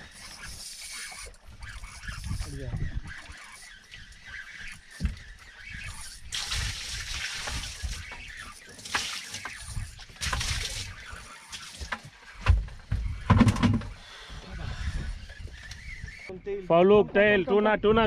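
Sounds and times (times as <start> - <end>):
water splashing against boat: 0.0 - 15.2.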